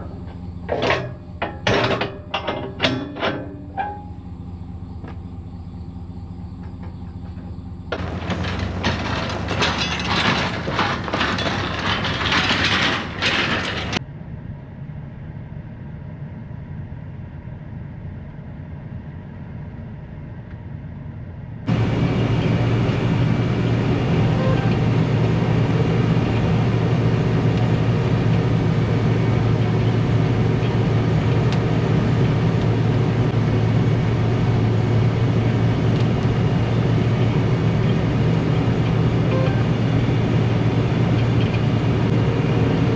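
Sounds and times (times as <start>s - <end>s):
heavy farm vehicle engine: 0.0s - 14.0s, 21.7s - 42.9s.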